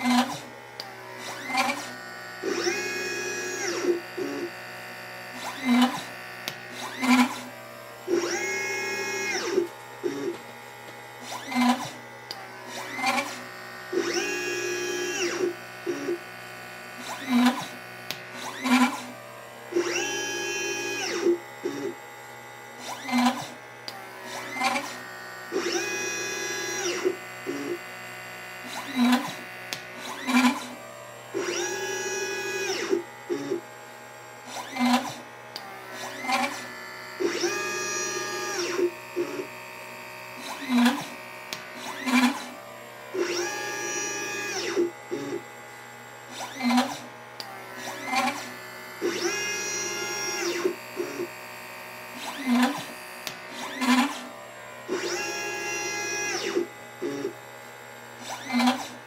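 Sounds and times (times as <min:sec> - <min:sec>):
stepper motors whining: 0:00.0 - 0:22.1, 0:22.7 - 0:27.8, 0:28.6 - 0:33.7, 0:34.4 - 0:57.5, 0:58.2 - 0:59.0
short motor buzzes: 0:00.0 - 0:59.0.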